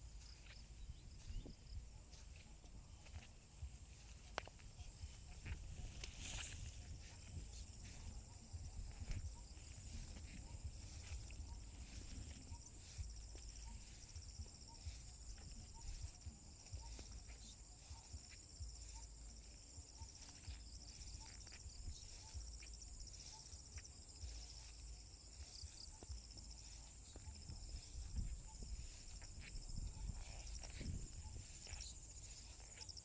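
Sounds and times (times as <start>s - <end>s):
crickets trilling chorus: 0.0s - 33.0s.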